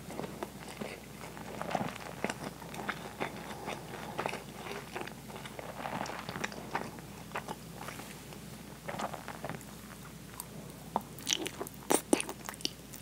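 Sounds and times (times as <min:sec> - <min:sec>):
chewing soft food: 0:00.0 - 0:13.0.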